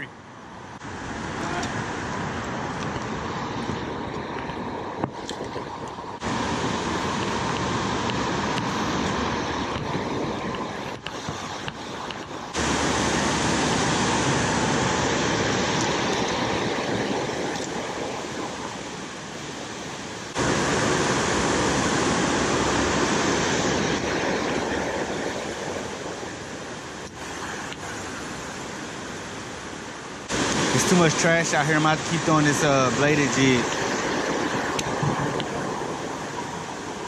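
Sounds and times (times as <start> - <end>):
water rushing over weir: 0.0 - 37.0.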